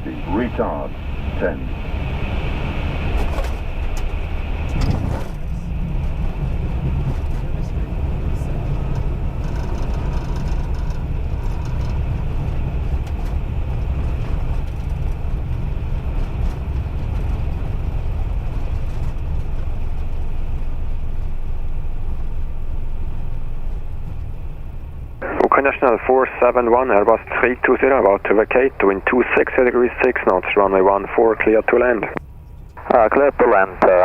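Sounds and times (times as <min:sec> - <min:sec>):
aircraft rumble in cockpit: 0:00.0 - 0:34.0.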